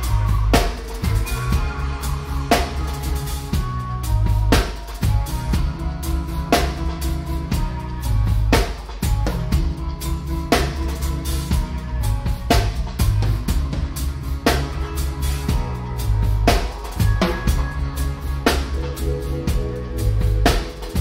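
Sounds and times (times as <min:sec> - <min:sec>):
heavy bass line: 0:00.0 - 0:21.0
live reggae band playing: 0:00.0 - 0:21.0.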